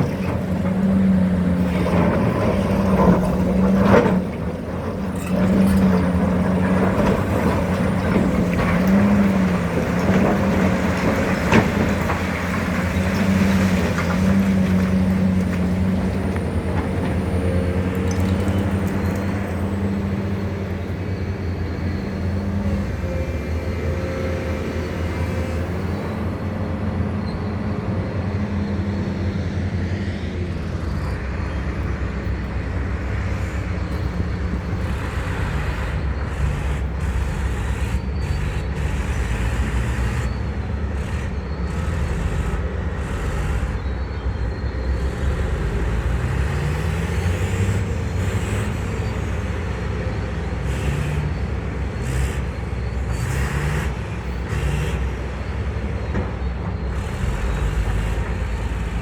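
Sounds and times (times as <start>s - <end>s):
excavator diesel engine rumbling: 0.0s - 59.0s.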